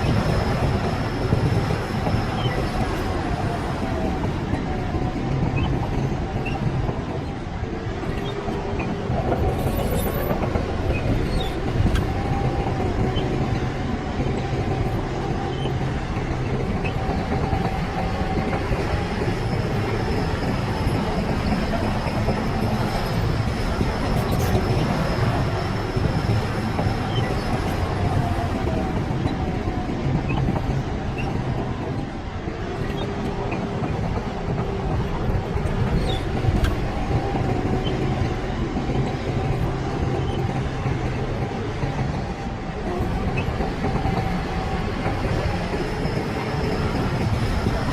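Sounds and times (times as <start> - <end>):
steel tracks clattering: 0.0 - 47.9.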